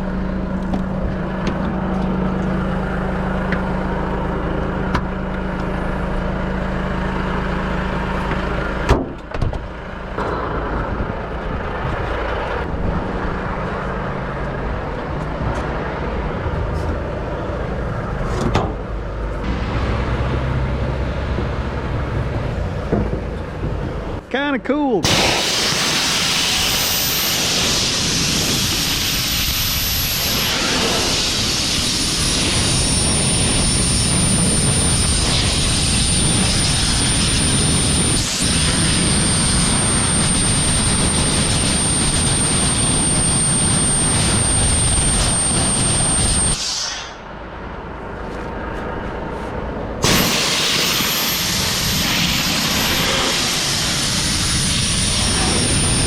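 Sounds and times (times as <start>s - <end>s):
air blower blasting with whine: 0.0s - 15.1s, 17.9s - 56.0s.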